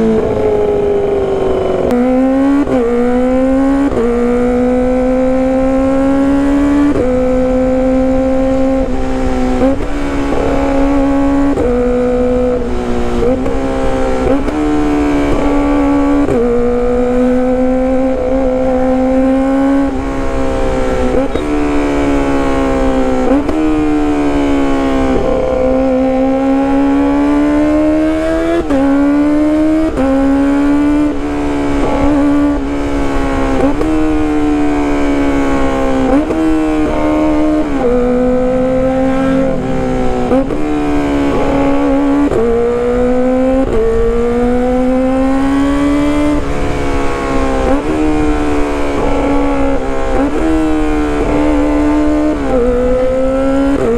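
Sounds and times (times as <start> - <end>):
high-revving motorcycle engine: 0.0 - 53.9.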